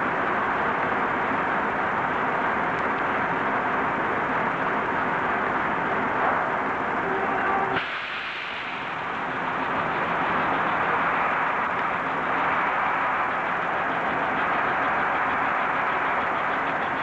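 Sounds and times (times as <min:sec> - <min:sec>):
loud mechanical roar: 0:00.0 - 0:17.0.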